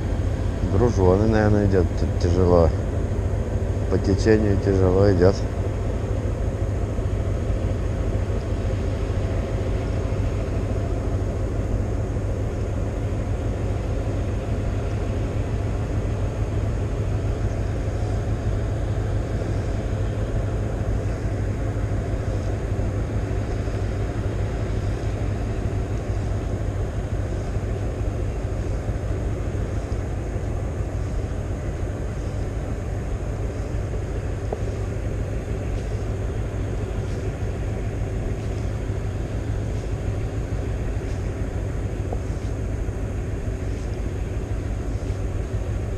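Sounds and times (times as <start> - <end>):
diesel engines droning: 0.0 - 45.9.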